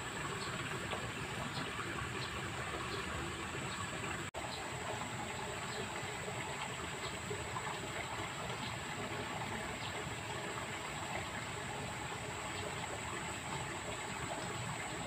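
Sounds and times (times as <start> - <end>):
water rushing in a channel: 0.0 - 15.0.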